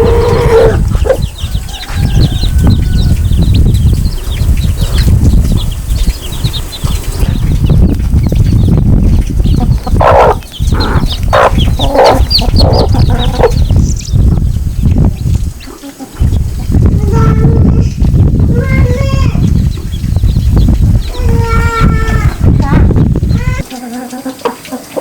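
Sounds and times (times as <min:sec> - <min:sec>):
heavy low rumble: 0:00.0 - 0:23.7
chickens clucking: 0:00.0 - 0:25.0.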